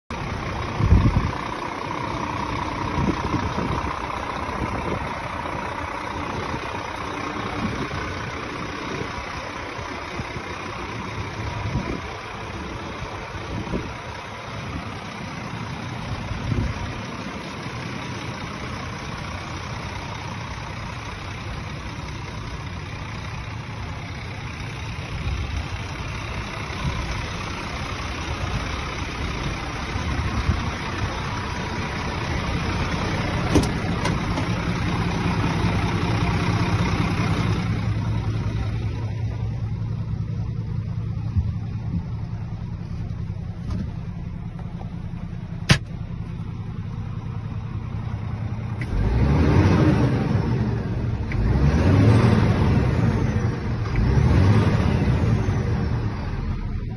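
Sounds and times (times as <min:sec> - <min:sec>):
diesel engine idling: 0:00.1 - 0:56.9.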